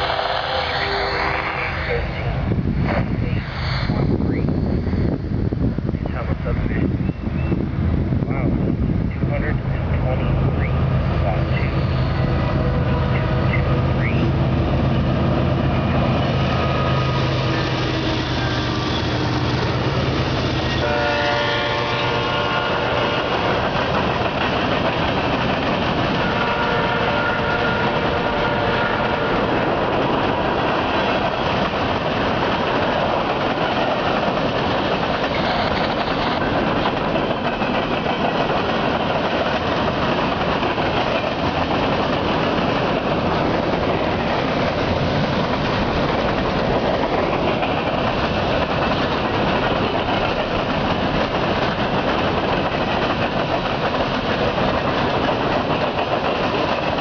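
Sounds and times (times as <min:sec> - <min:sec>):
steel wheels running on rails: 0:09.1 - 0:57.0.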